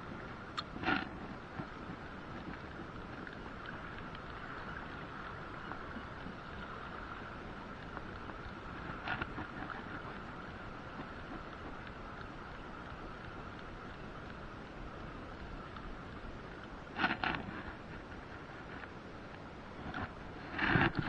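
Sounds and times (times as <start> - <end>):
water noise: 0.0 - 21.0
wind: 0.0 - 21.0.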